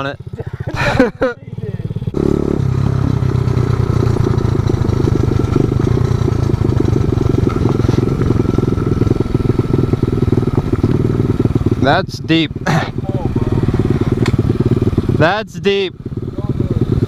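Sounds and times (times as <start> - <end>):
motorbike engine running: 0.0 - 17.0.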